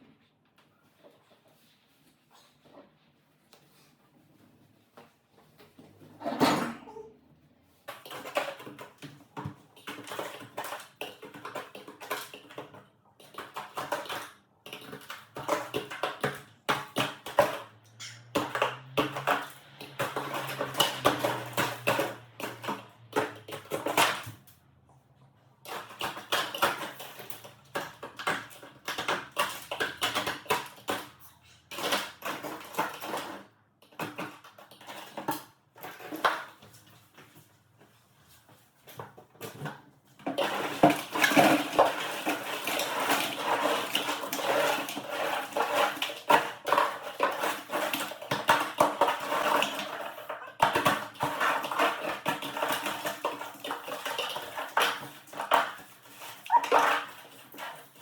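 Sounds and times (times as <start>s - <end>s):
ice knocking and scraping: 7.8s - 24.4s, 25.6s - 37.3s, 38.9s - 58.0s.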